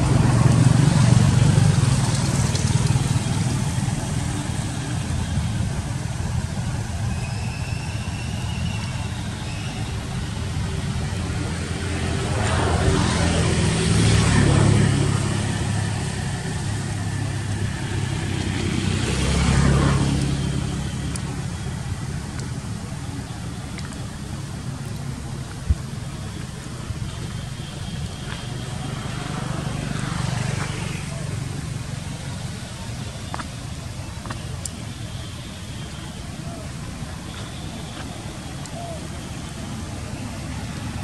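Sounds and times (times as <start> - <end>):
traffic engine hum: 0.0 - 41.0
vehicles passing: 0.0 - 41.0.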